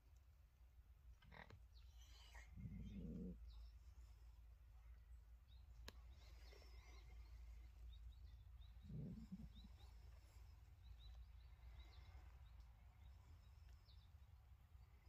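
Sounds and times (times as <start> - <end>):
distant bird chirps: 1.2 - 4.2, 4.8 - 15.0.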